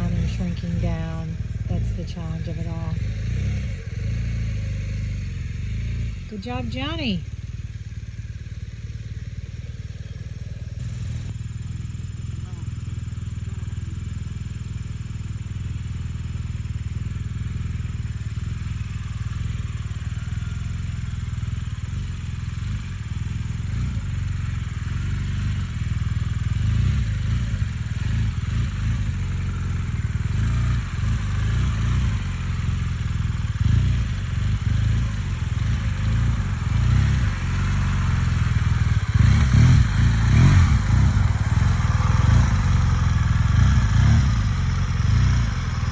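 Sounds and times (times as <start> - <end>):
motorcycle engine at low revs: 0.0 - 45.9.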